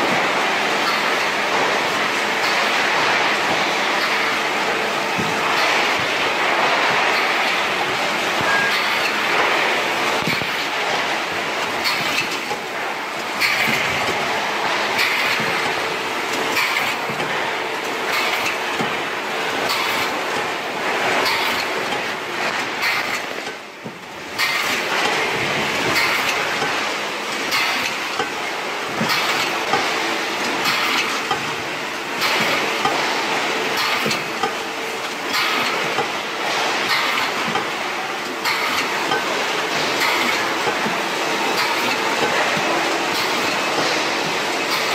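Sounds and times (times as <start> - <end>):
machines clattering and rattling: 0.0 - 44.9.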